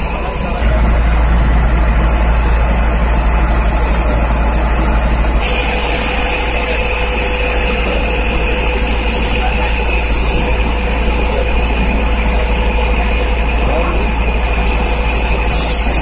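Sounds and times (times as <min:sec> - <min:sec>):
diesel engine rumbling: 0:00.0 - 0:16.0
steady whine: 0:00.0 - 0:16.0.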